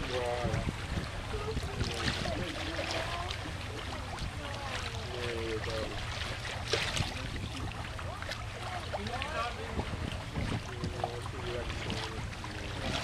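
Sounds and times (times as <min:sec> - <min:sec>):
faint voices: 0:00.0 - 0:13.0
steady low rumble: 0:00.0 - 0:13.0
water splashing along boat hull: 0:00.0 - 0:13.0.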